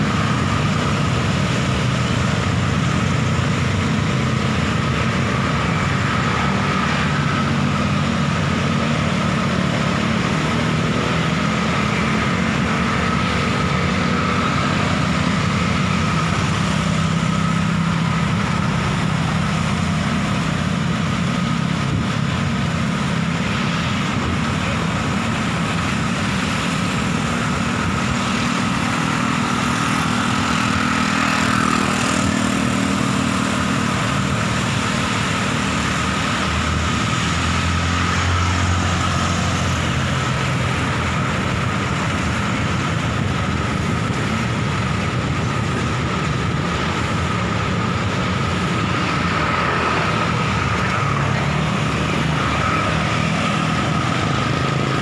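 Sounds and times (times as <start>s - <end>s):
motorcycle and car engines: 0.0s - 55.0s.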